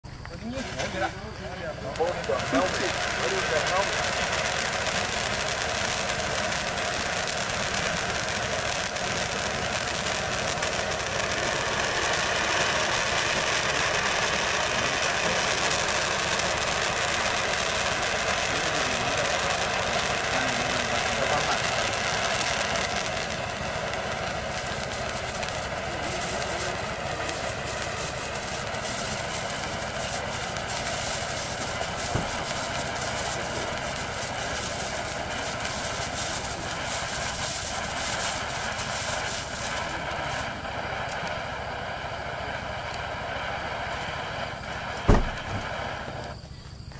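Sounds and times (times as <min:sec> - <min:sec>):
firework hissing and crackling: 0:00.0 - 0:46.9
sharp crack: 0:00.2 - 0:41.4, 0:44.9 - 0:46.4.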